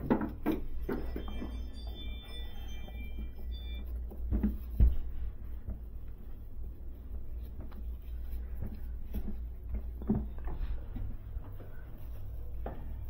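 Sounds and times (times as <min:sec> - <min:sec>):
rope rustling and scraping: 0:00.9 - 0:13.0.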